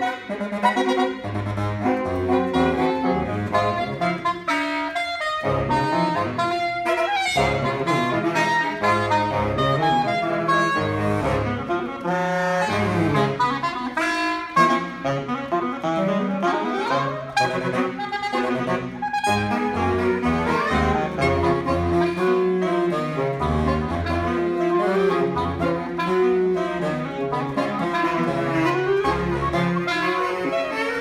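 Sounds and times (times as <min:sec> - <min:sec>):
saxophone quartet playing: 0:00.0 - 0:31.0.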